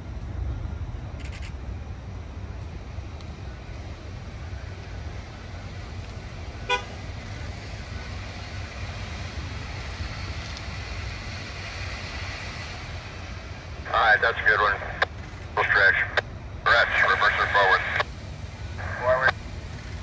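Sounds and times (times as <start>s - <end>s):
locomotives rumbling: 0.0s - 20.0s.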